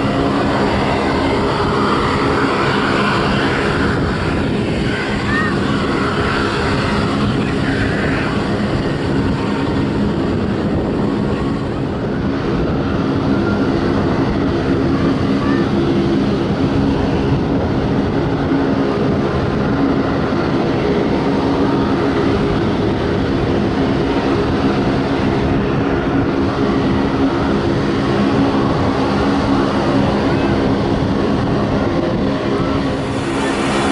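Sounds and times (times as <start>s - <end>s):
turboprop engines droning: 0.0s - 33.9s.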